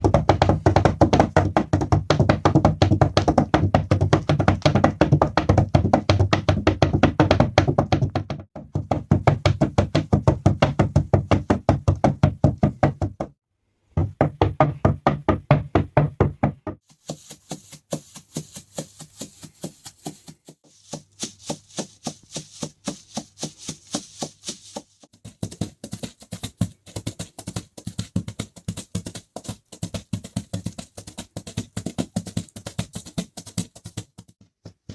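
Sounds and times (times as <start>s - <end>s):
horse hoofbeats clip-clop: 0.0s - 13.3s, 14.0s - 34.9s.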